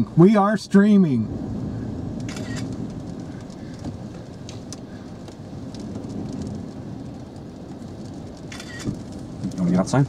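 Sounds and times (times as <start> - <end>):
low rumble: 0.0 - 10.0
rain on car roof: 0.0 - 10.0.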